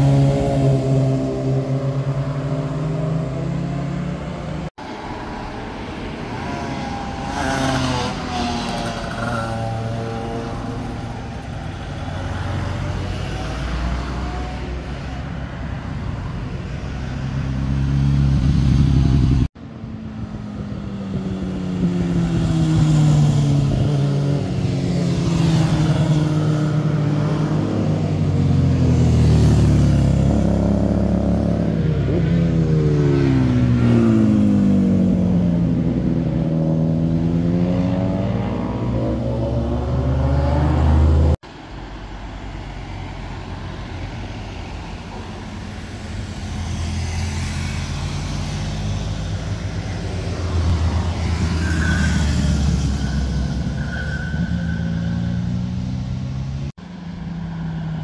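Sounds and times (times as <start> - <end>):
motorcycle engines passing: 0.0 - 41.4, 44.1 - 58.0.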